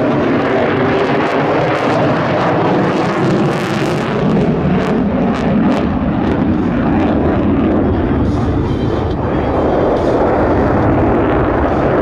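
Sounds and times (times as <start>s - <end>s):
jet engine with afterburner: 0.0s - 12.0s.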